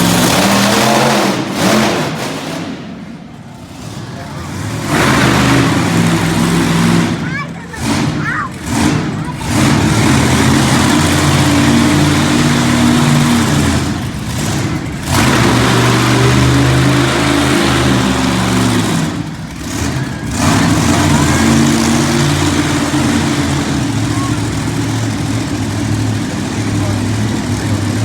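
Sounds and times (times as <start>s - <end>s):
truck engines running at high revs: 0.0s - 28.0s.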